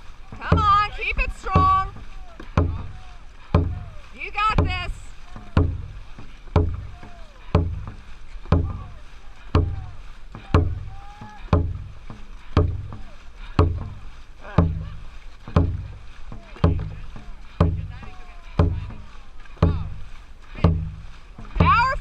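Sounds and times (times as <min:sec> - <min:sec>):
deep drum thumps: 0:00.0 - 0:22.0.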